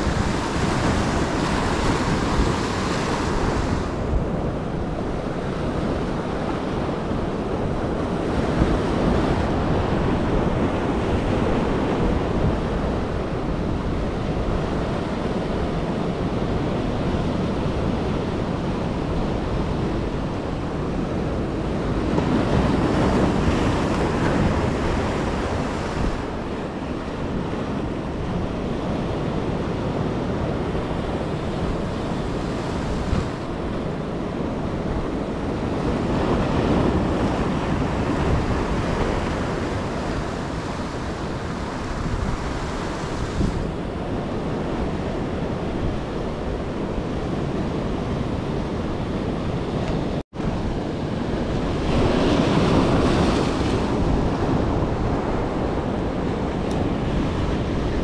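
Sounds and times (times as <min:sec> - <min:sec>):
ocean surf breaking: 0:00.0 - 0:58.0
wind buffeting microphone: 0:00.0 - 0:58.0.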